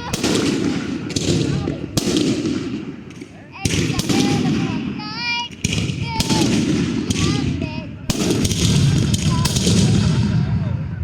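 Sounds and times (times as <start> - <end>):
fireworks booming and cracking: 0.0 - 11.0.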